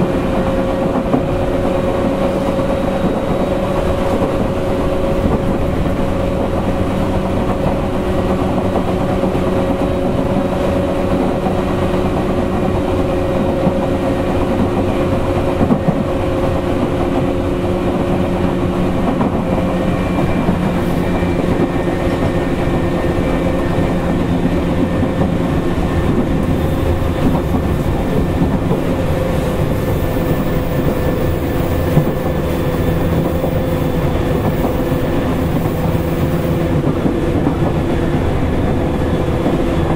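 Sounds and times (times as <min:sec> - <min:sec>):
electric train motors droning: 0:00.0 - 0:39.9
wheels clicking over rail joints: 0:00.4 - 0:39.9.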